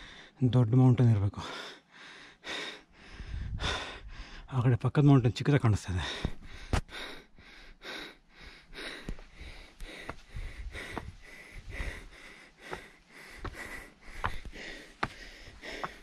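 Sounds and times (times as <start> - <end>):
person breathing hard: 0.0 - 0.4, 1.4 - 4.5, 6.0 - 16.0.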